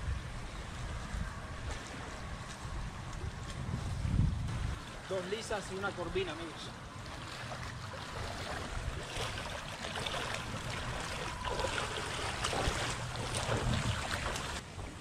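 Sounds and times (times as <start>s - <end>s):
wind rumbling on microphone: 0.0s - 5.2s, 6.8s - 15.0s
person wading through shallow water: 0.2s - 15.0s.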